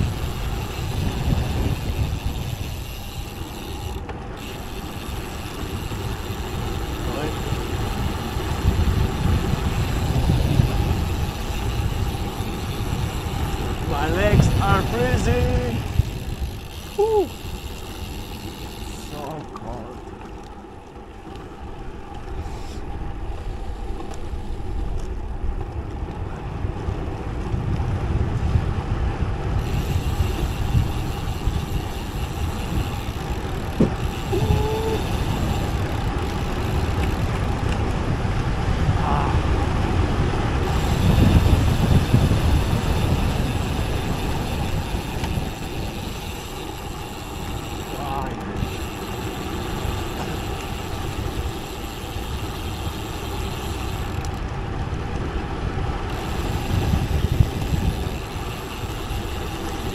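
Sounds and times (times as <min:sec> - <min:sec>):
wind rushing over microphone: 0:00.0 - 0:04.0, 0:04.9 - 0:19.0, 0:22.3 - 0:59.9.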